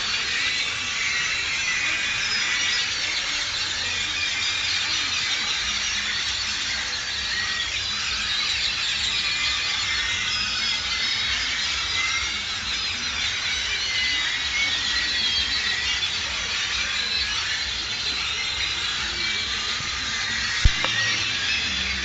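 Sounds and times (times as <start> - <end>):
flock of birds chirping: 0.0 - 22.0.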